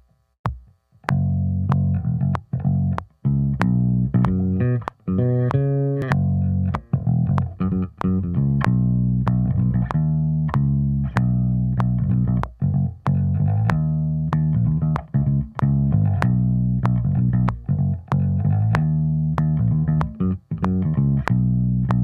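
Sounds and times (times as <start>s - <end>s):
electric bass guitar: 1.0s - 22.0s.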